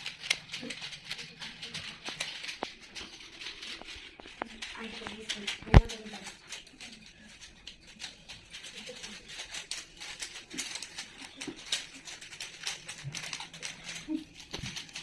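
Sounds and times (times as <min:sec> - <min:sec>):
plastic puzzle cubes clicking: 0:00.0 - 0:15.0.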